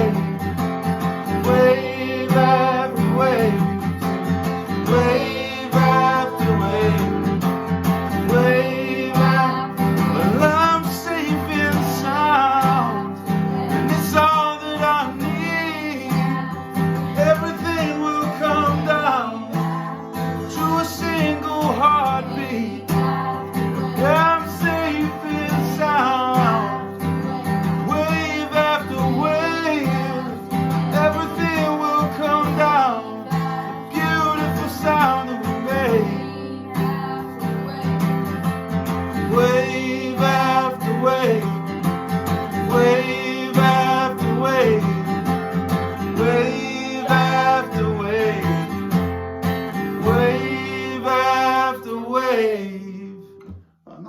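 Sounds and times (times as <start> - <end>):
voices singing: 0.0 - 49.0, 49.9 - 53.3
acoustic guitar strumming: 0.0 - 53.8.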